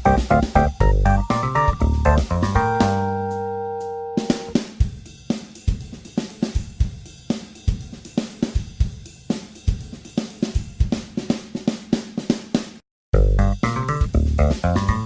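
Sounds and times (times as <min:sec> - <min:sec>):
drum kit playing a beat: 0:00.0 - 0:15.0.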